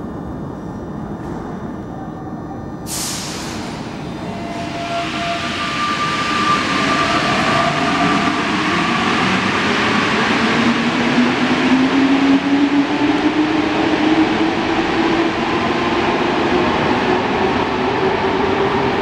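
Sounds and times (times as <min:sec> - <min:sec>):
metro train rushing: 0:00.0 - 0:19.0
train whine: 0:00.0 - 0:19.0.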